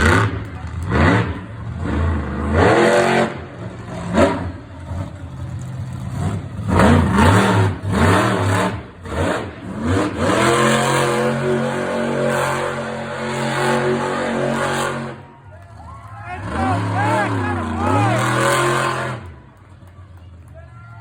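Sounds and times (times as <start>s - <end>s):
truck engine revving: 0.0s - 20.5s.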